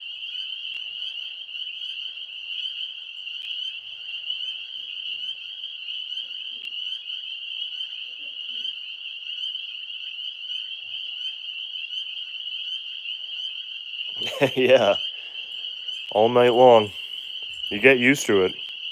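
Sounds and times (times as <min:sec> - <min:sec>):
tree frogs trilling chorus: 0:00.0 - 0:18.9.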